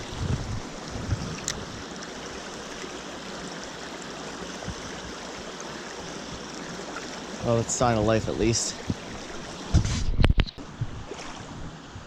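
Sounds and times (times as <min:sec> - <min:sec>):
stream babbling over rocks: 0:00.0 - 0:10.3.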